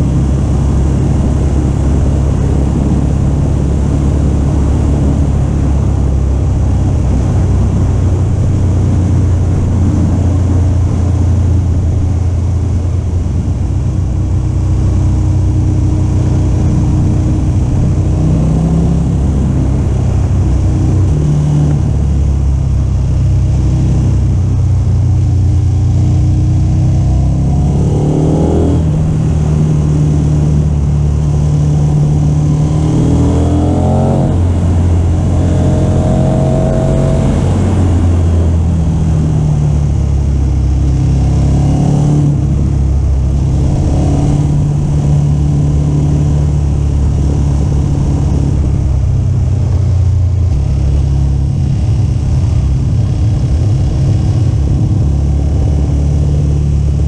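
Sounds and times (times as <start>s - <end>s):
motorcycle engine running: 0.0s - 57.0s
wind rush: 0.0s - 57.0s.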